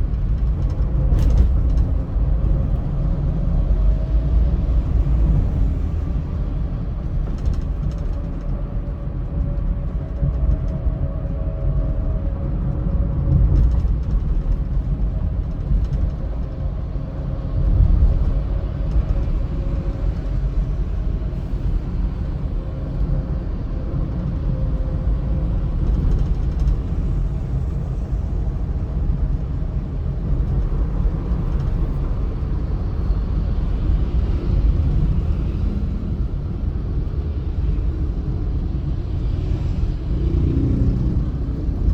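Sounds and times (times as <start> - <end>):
car road rumble: 0.0 - 41.9.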